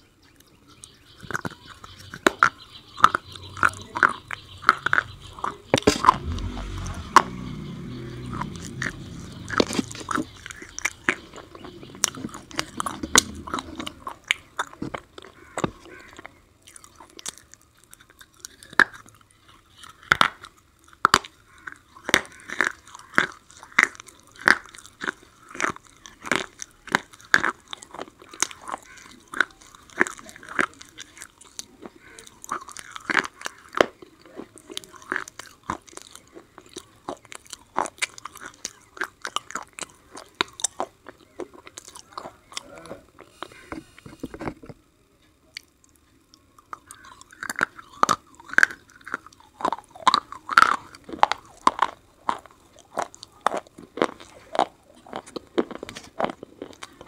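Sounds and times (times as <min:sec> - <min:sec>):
sharp crunches of chewing: 0:00.0 - 0:57.0.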